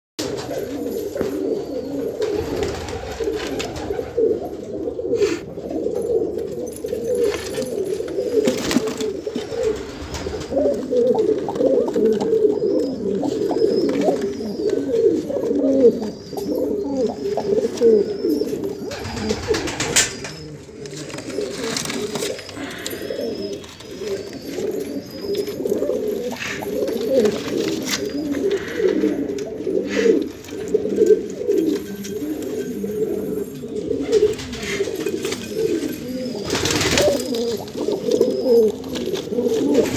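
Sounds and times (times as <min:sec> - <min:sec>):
pigeons cooing: 0:00.2 - 0:39.9.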